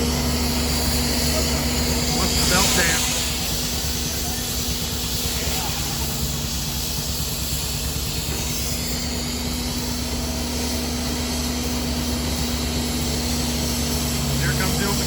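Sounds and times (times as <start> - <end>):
steam engine mechanical hum: 0.0 - 15.0
steam hissing: 0.0 - 15.0.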